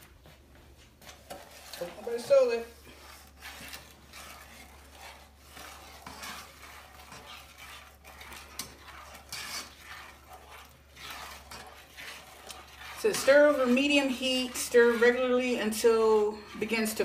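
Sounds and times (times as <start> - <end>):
spatula scraping saucepan: 1.0 - 17.0.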